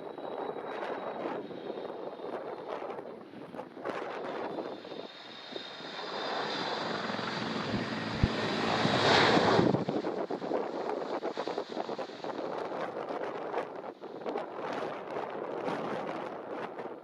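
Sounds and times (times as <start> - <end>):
jet engines roaring: 0.0 - 15.2.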